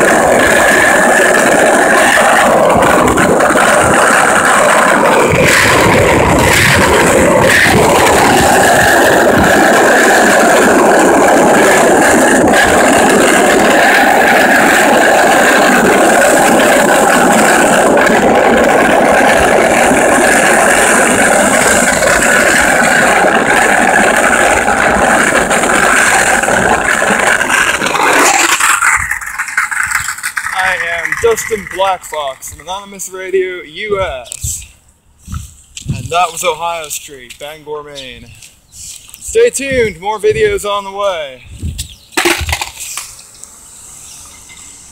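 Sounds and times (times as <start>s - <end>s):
wheels rolling over rough asphalt: 0.0s - 44.9s.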